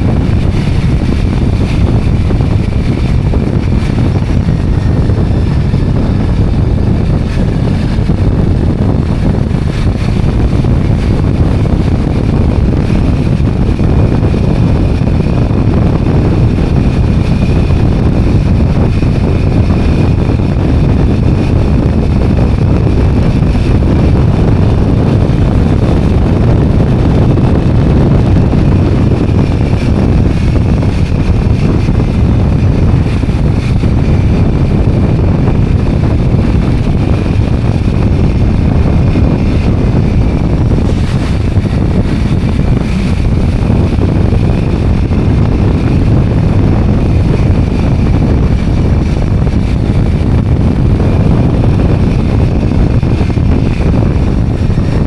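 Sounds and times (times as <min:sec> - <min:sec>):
motorbike engine running: 0:00.0 - 0:55.0
wind buffeting microphone: 0:00.0 - 0:55.0.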